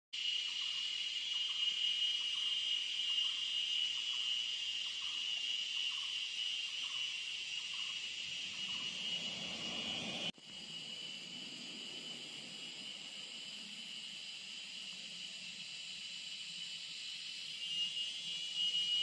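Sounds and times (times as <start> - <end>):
insects chorus droning: 0.2 - 19.0.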